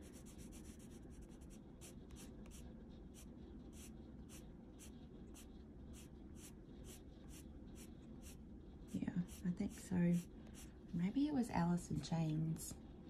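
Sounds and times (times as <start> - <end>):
pencil scratching on paper: 0.0 - 10.7.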